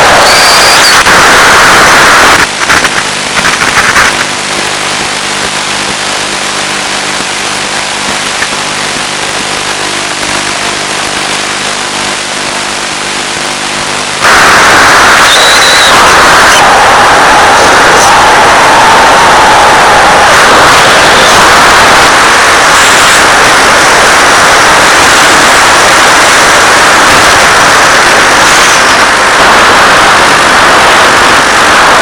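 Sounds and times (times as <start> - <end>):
steady fixed-pitch hum: 0.0 - 3.3, 4.5 - 32.0
loud static hiss: 0.0 - 32.0.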